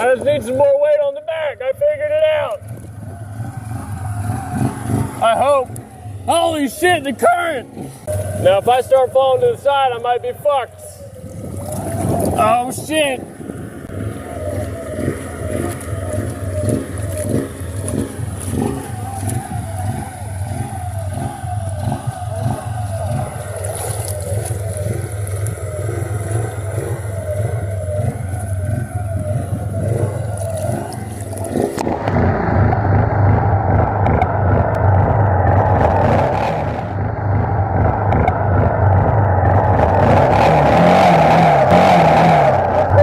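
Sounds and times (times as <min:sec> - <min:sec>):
quad engine revving: 0:00.0 - 0:43.0.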